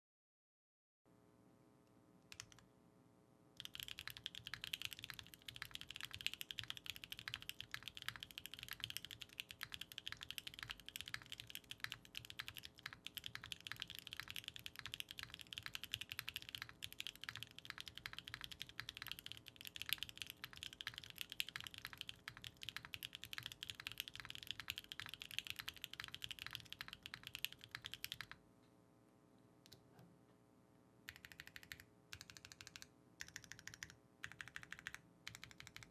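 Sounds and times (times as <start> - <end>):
typing on mechanical keyboard: 2.3 - 2.6, 3.6 - 28.4, 31.1 - 35.9.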